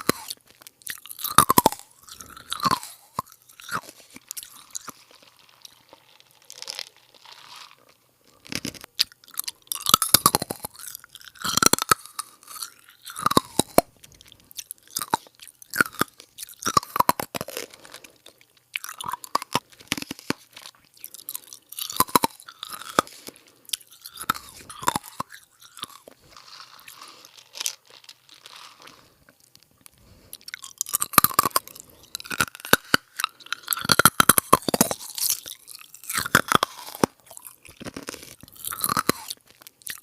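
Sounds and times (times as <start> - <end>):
crisp crunching and crackling: 0.0 - 40.0.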